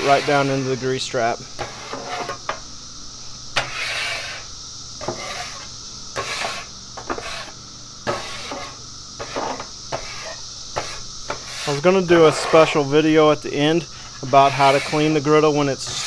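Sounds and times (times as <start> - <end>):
metal scraper scraping griddle: 0.0 - 1.0, 1.6 - 2.6, 3.6 - 12.9, 14.1 - 16.0
cicadas droning: 0.0 - 16.0.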